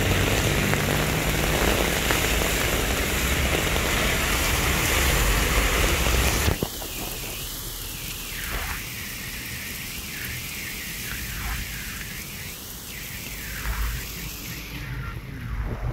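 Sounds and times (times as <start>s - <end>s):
heavy rain on wet street: 0.0s - 15.9s.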